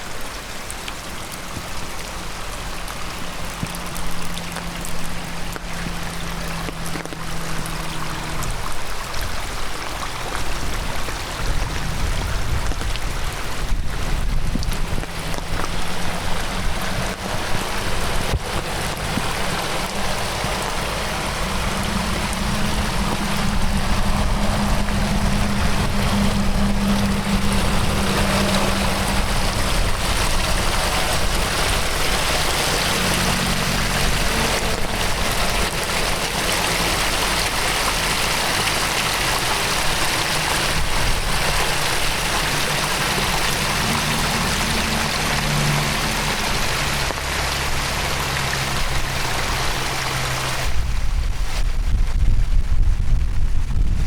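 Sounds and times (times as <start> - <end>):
heavy rain falling: 0.0 - 54.0
stream rushing: 0.0 - 54.0.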